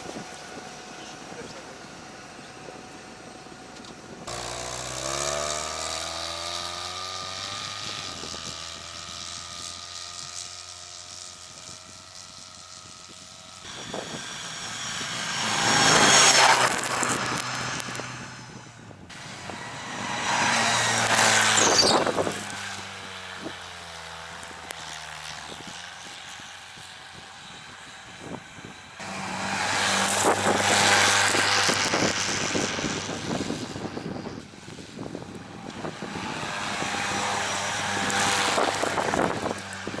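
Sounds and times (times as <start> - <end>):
vehicle engine driving through snow: 0.0 - 40.0.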